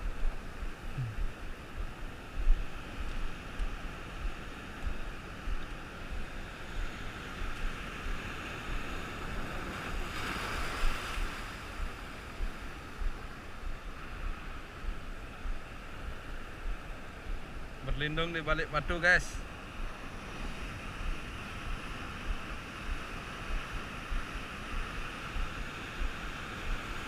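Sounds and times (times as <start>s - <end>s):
wind rumbling on microphone: 0.0s - 27.0s
ocean surf washing in: 0.1s - 27.0s.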